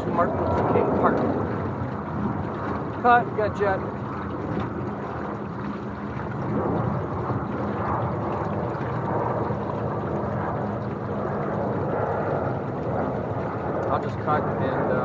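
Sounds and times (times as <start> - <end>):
water rushing against hulls: 0.0 - 15.0.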